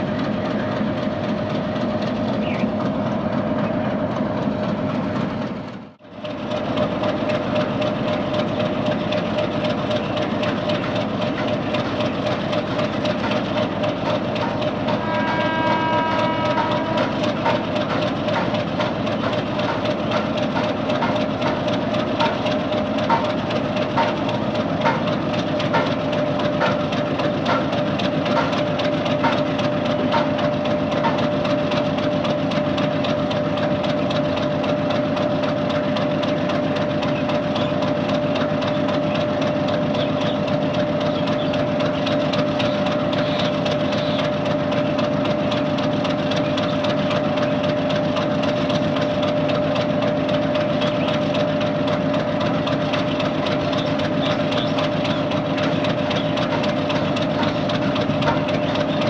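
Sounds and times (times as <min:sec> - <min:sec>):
locomotive engine idling: 0:00.0 - 0:59.0.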